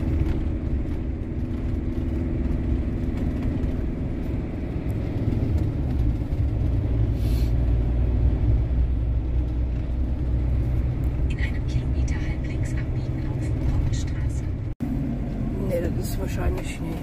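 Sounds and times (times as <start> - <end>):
engine and road noise in cab: 0.0 - 17.0.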